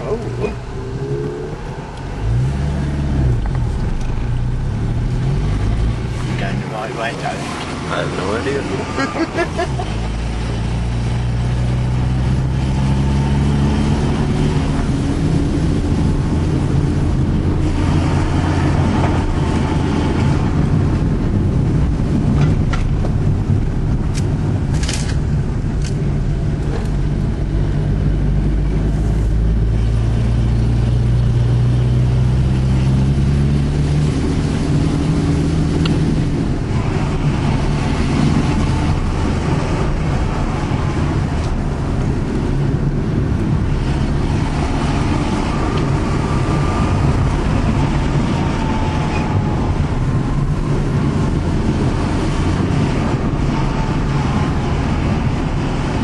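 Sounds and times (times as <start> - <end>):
car engine accelerating: 0.0 - 56.0
tyres on road: 0.0 - 56.0.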